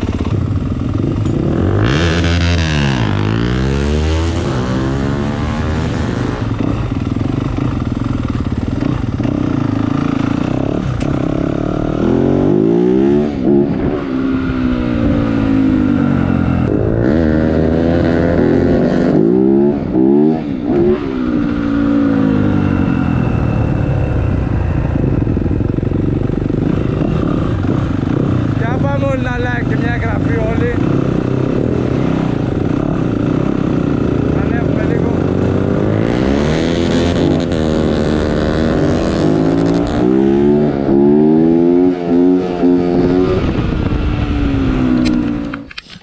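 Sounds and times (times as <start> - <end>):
motocross engine revving: 0.0 - 23.2, 25.0 - 45.7.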